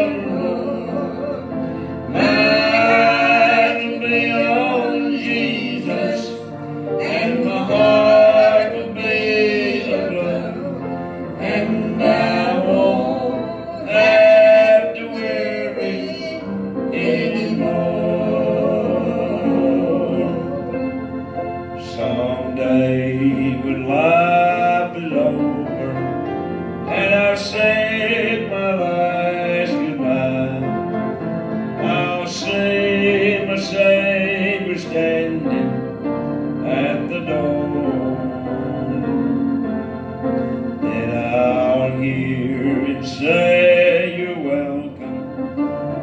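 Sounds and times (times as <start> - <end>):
person singing gospel song: 0.0 - 26.0, 26.8 - 30.9, 31.6 - 35.8, 36.6 - 39.6, 40.6 - 45.4
piano accompaniment: 0.0 - 46.0.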